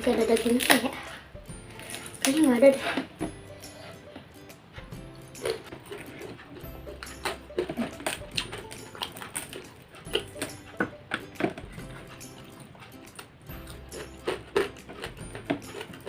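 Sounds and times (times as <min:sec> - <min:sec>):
wet chewing and crunching: 0:00.0 - 0:16.0.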